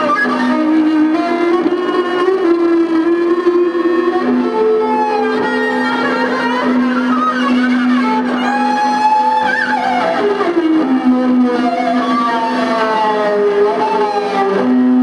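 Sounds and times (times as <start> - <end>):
bowed violin drone with effects: 0.0 - 15.0.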